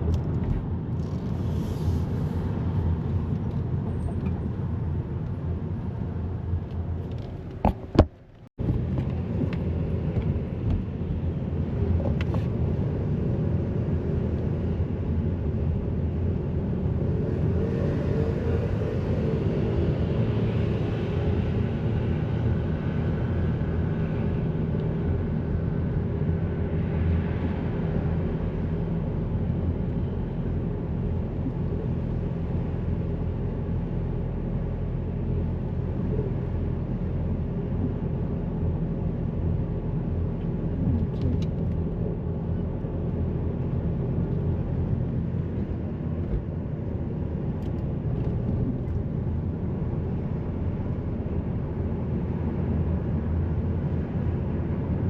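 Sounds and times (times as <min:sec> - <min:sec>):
road vehicle rumble: 0:00.0 - 0:55.0.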